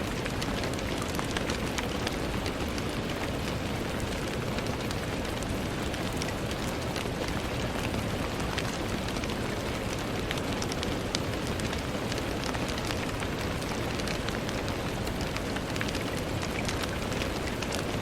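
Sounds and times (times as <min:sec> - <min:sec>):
rain on a window: 0:00.0 - 0:18.0.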